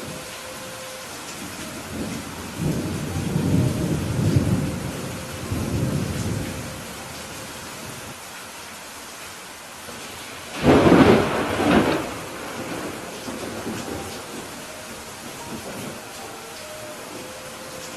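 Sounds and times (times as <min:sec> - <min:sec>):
thunder rumbling: 0:00.0 - 0:08.1, 0:10.5 - 0:17.9
rain hiss: 0:00.0 - 0:17.9.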